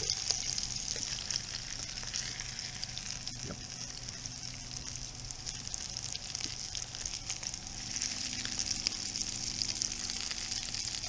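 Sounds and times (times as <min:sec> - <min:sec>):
fish frying in a pan: 0:00.0 - 0:11.0.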